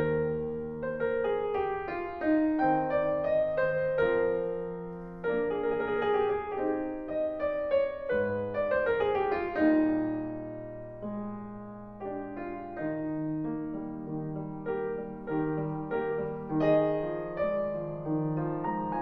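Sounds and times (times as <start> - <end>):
piano notes and chords: 0.0 - 19.0.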